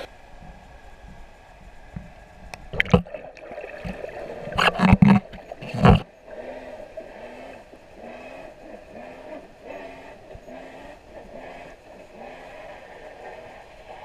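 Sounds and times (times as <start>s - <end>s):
underwater water gurgling: 0.0s - 14.0s
loud bubbling surges: 2.7s - 14.0s.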